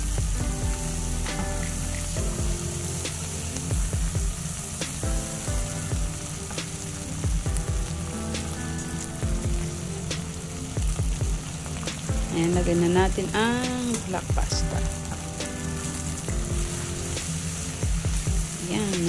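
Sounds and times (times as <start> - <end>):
background music: 0.0 - 19.0
seafood sizzling in frying pan: 0.0 - 19.0.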